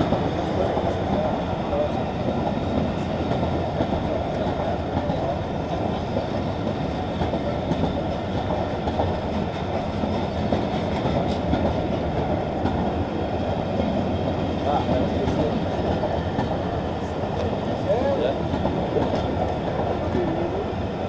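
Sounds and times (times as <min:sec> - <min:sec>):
train wheels rumbling on rails: 0:00.0 - 0:21.0
wheels clacking over rail joints: 0:00.0 - 0:21.0.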